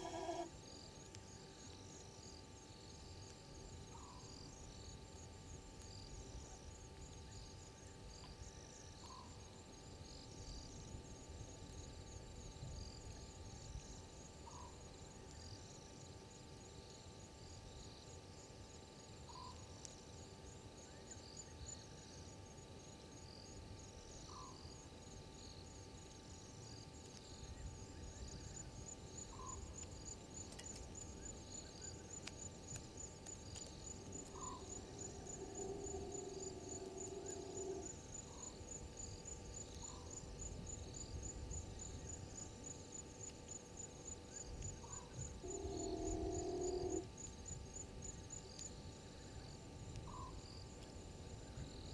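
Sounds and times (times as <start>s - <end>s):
crickets trilling: 0.0s - 51.9s
steady low hum: 0.0s - 51.9s.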